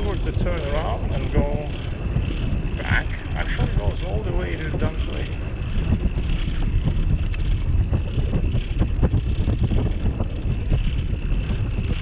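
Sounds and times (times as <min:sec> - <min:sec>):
bike knocks and rattles: 0:00.0 - 0:12.0
low rumble of bike rolling: 0:00.0 - 0:12.0
wind buffeting microphone: 0:00.0 - 0:12.0.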